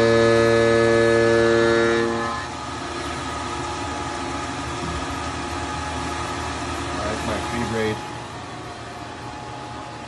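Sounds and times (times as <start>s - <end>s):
machine running: 0.0s - 10.0s
mill cutting metal droning: 0.0s - 10.0s.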